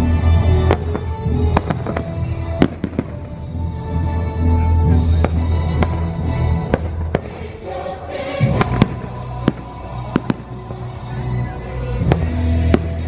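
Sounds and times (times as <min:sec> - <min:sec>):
fireworks bursting with sharp bangs: 0:00.0 - 0:13.0
loud music: 0:00.0 - 0:13.0.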